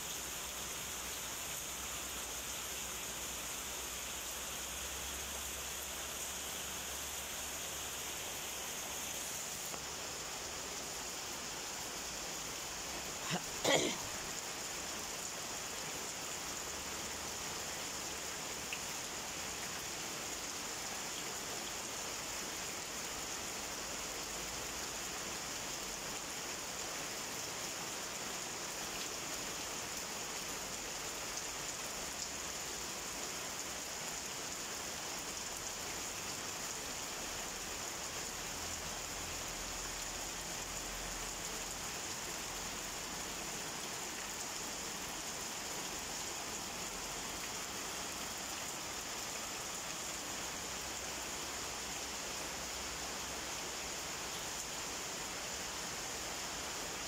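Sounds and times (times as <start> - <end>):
torrential rain hissing: 0.0 - 57.0.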